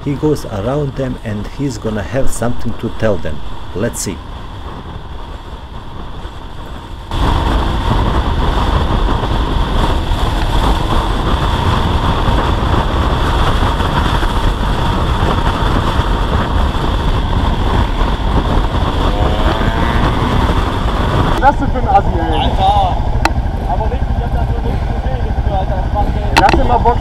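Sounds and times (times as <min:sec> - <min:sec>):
wind rushing over microphone: 0:00.0 - 0:27.0
motorcycle engine: 0:03.4 - 0:27.0.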